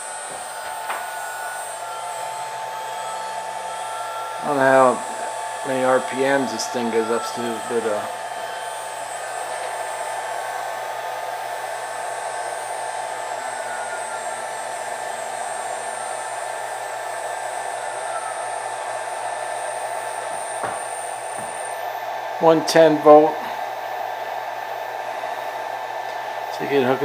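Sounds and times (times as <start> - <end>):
router spindle whine: 0.0 - 27.0.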